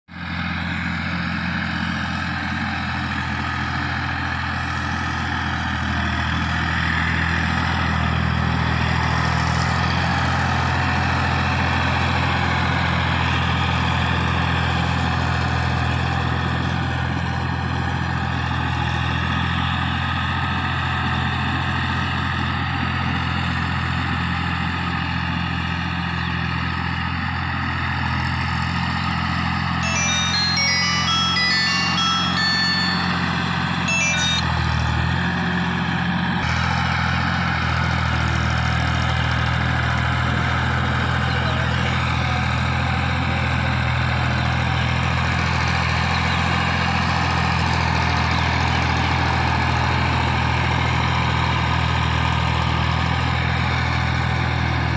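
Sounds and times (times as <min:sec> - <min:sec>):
tractor diesel engine under load: 0:00.1 - 0:54.9.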